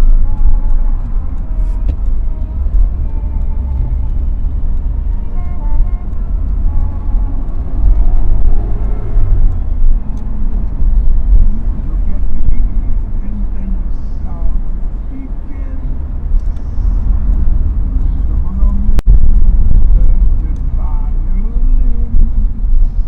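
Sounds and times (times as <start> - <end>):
car engine and road noise rumble: 0.0 - 23.0.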